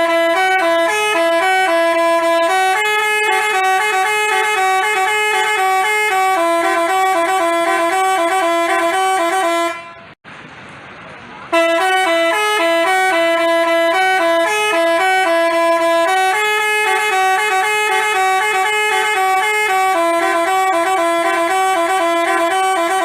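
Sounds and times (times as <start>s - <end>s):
multi-note bus horn tune: 0.0s - 10.2s, 11.5s - 23.0s.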